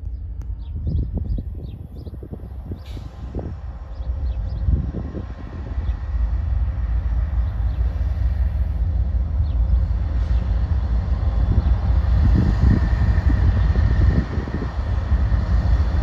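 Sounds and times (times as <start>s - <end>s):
diesel locomotive low rumble: 0.0s - 16.0s.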